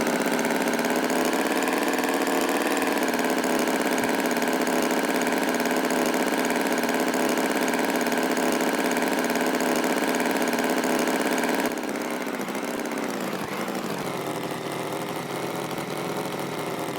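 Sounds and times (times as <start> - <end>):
tractor engine humming: 0.0 - 9.2, 11.2 - 16.9.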